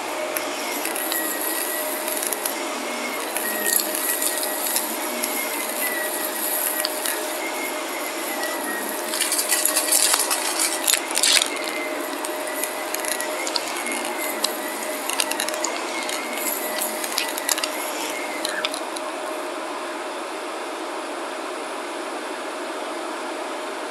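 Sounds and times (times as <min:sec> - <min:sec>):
grit crackling in vacuum: 0:00.0 - 0:19.2
vacuum cleaner motor hum: 0:00.0 - 0:19.5.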